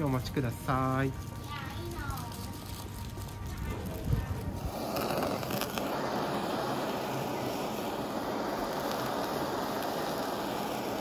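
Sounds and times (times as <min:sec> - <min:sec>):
blowtorch hissing: 0:00.0 - 0:11.0.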